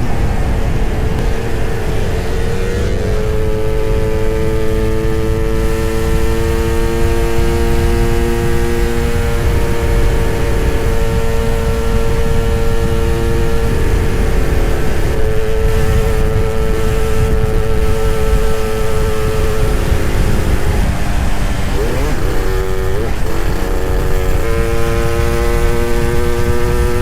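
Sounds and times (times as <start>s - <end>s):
two-stroke motorcycle engines revving: 0.0s - 27.0s.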